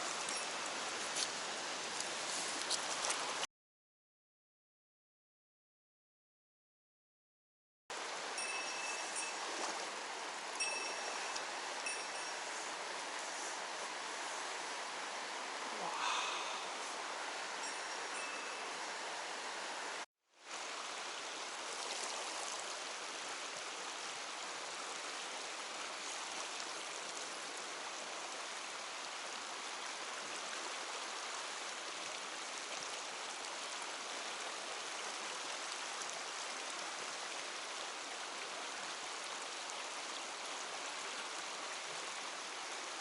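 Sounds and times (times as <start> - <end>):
stream rushing over rocks: 0.0 - 3.5, 7.9 - 43.0.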